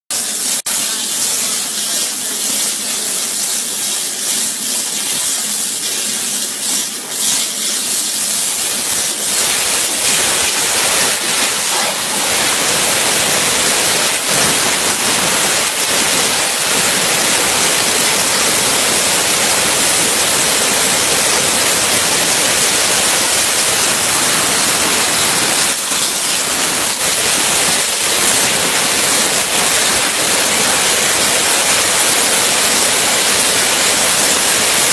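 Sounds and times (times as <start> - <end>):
waterjet cutter hissing: 0.1 - 34.9.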